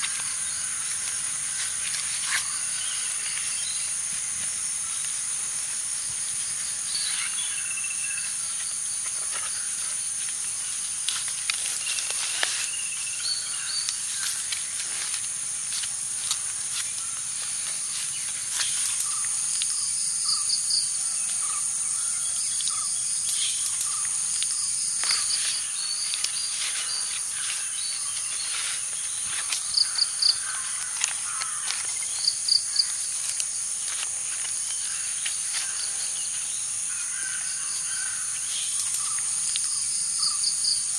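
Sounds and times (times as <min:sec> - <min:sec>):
leaf crackling being folded: 0:00.0 - 0:07.6, 0:08.2 - 0:19.9, 0:23.2 - 0:40.0
insects droning: 0:00.0 - 0:40.9.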